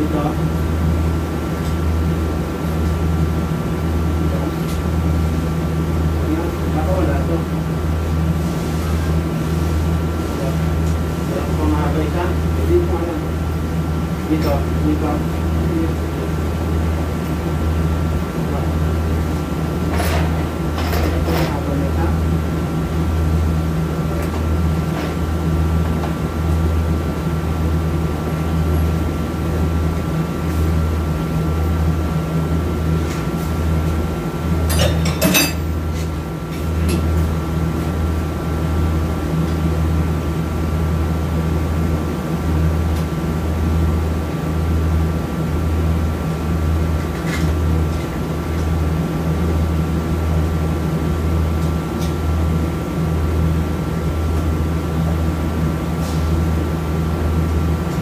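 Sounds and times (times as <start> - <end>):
shop equipment humming: 0.0 - 58.0.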